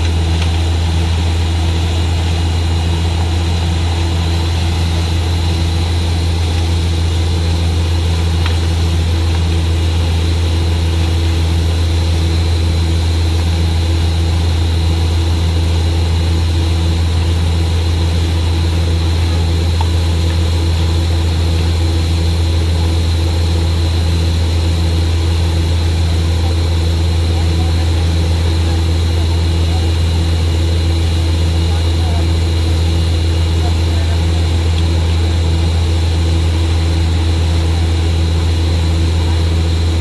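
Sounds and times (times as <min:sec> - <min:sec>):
diesel engine drone: 0:00.0 - 0:40.0.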